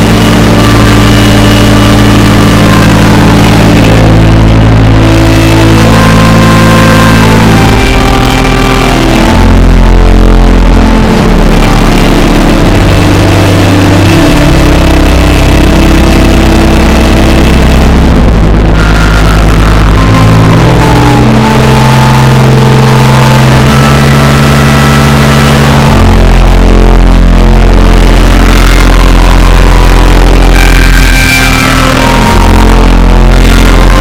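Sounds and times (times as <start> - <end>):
church organ chords: 0.0 - 34.0.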